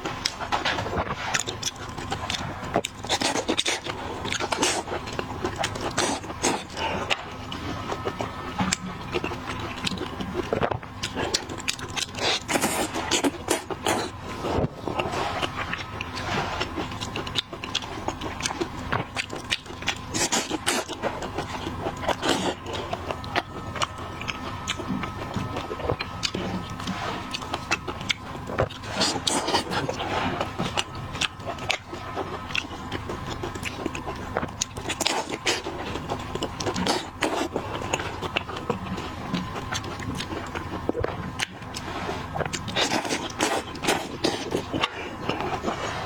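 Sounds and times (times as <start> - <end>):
chewing seafood: 0.0 - 46.0.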